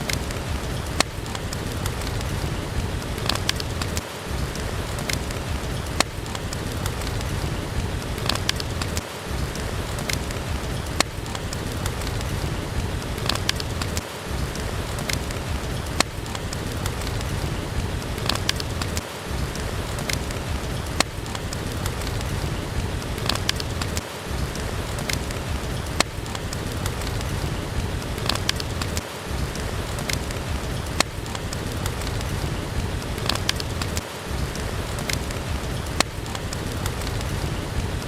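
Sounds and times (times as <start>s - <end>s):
steady rain: 0.0s - 38.0s
wood fire crackling: 0.0s - 38.0s.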